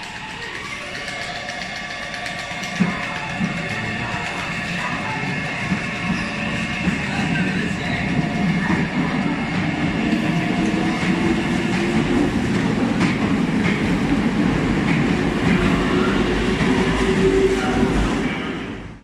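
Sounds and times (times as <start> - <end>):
train wheels rolling on rail: 0.0 - 19.0.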